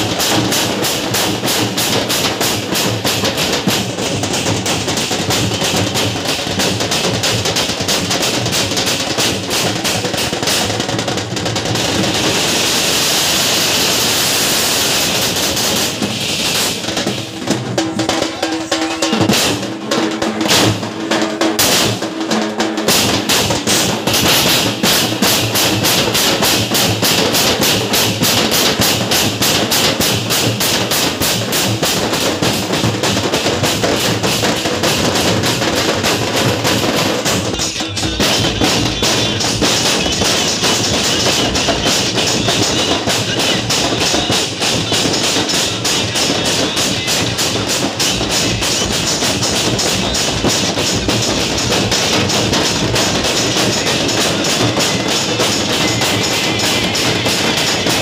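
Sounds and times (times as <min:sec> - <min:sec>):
drum-heavy dance music: 0:00.0 - 0:58.0
fast even drumbeat: 0:00.0 - 0:58.0.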